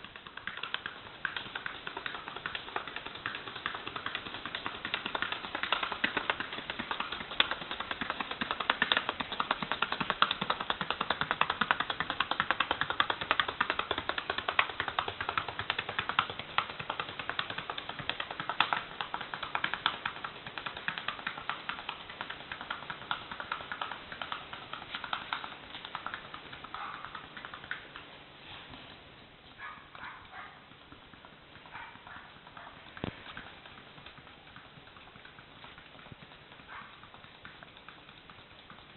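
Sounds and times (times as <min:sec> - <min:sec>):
rapid horse hoofbeats: 0:00.0 - 0:38.9.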